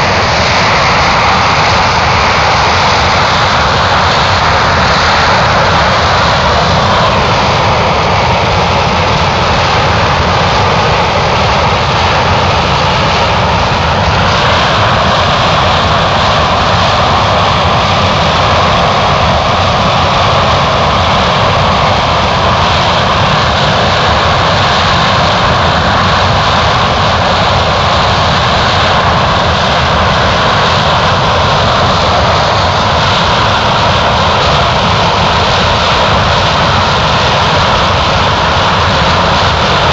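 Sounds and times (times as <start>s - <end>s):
aircraft engine noise: 0.0s - 39.9s.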